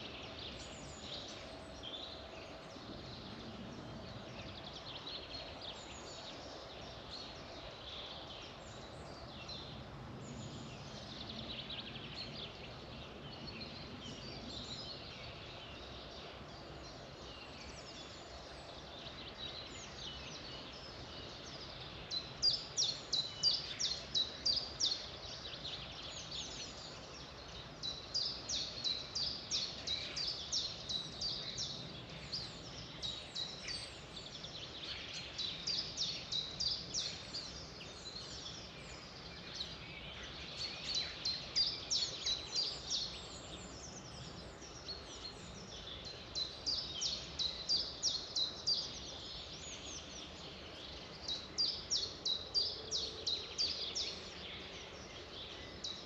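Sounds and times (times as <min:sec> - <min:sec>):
songbirds chirping and singing: 0:00.0 - 0:56.0
steady background hiss: 0:00.0 - 0:56.0.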